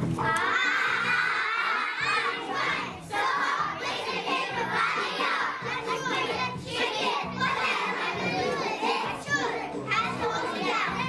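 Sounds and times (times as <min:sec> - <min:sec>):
children's voices: 0:00.1 - 0:11.0.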